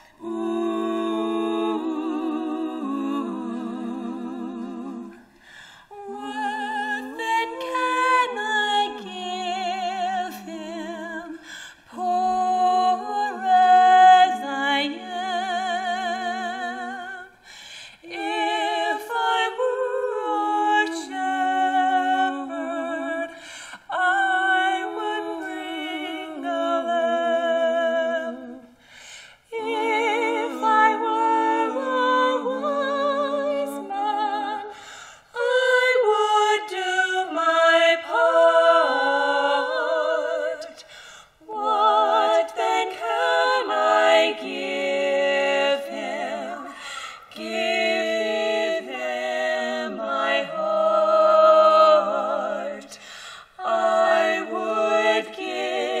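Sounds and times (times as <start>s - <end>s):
female vocal trio singing carol: 0.0s - 56.0s.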